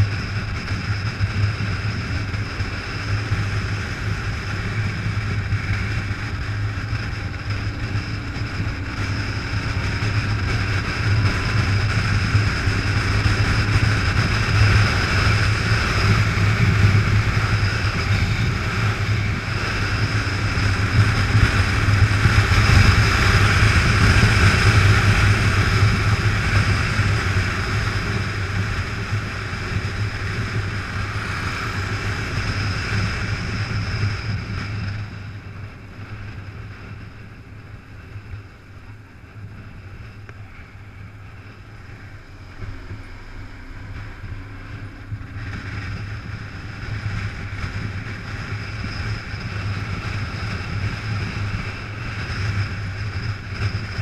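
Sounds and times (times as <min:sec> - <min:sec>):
motorcycle engine hum: 0:00.0 - 0:54.0
wind rushing over microphone: 0:00.0 - 0:54.0.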